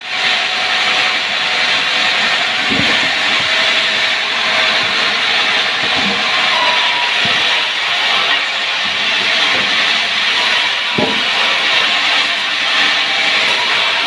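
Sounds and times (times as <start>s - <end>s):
power saw cutting wood: 0.0s - 14.0s.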